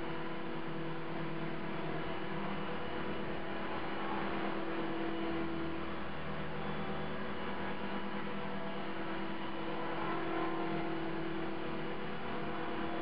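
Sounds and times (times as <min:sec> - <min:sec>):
rc helicopter buzzing: 0:00.0 - 0:13.0.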